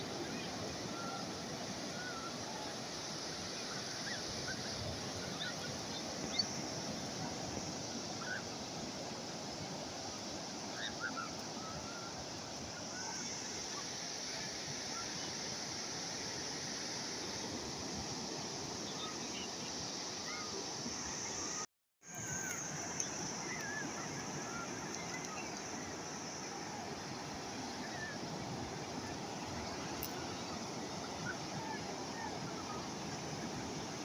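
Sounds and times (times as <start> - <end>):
sea waves washing on shore: 0.0 - 34.0.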